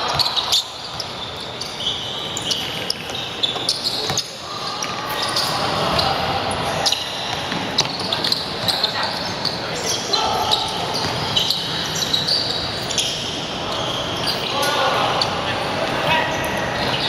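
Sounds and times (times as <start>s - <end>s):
sneakers squeaking: 0.0s - 17.0s.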